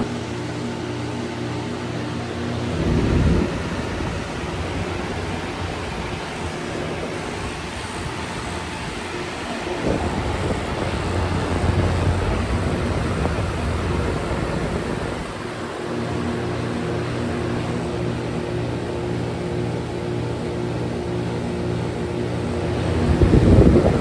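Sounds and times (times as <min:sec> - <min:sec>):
heat pump rushing with hum: 0:00.0 - 0:24.0.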